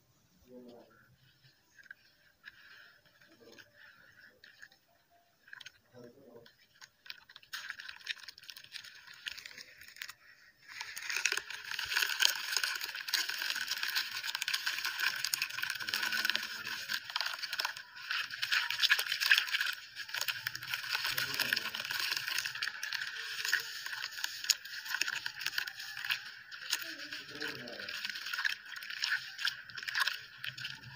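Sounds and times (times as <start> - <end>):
wet dirt crackling underwater: 0.4 - 30.9.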